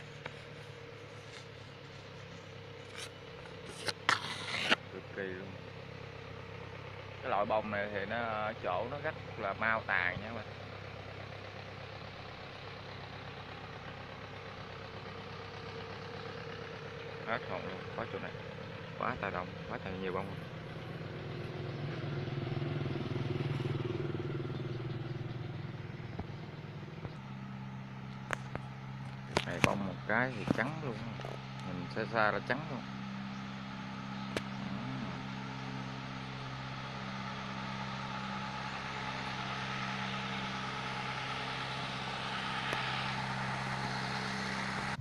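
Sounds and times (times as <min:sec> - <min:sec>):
engine running: 0:00.0 - 0:45.0
low motor hum: 0:00.0 - 0:45.0.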